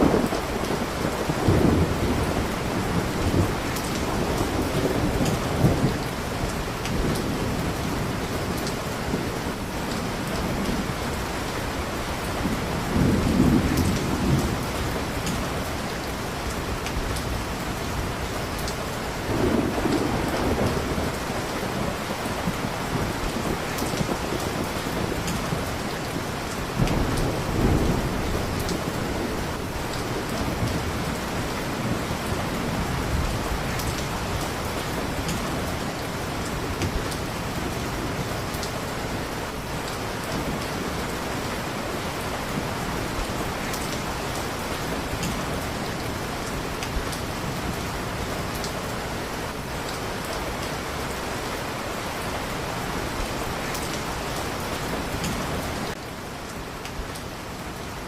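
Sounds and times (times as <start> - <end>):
low rolling thunder: 0.0 - 49.6
heavy rain: 0.0 - 58.0.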